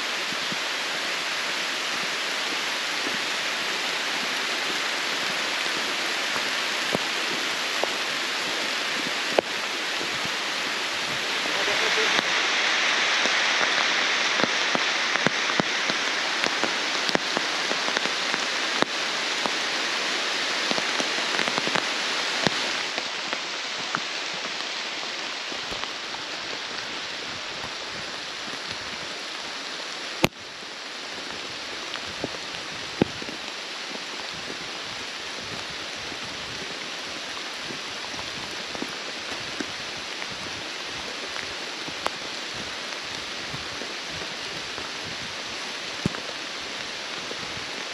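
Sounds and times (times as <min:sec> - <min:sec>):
rain falling on foliage: 0:00.0 - 0:47.9.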